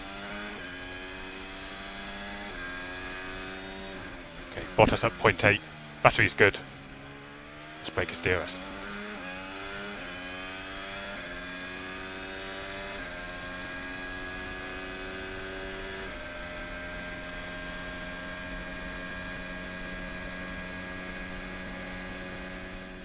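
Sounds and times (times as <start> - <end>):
racing car engine at high revs: 0.0 - 23.0.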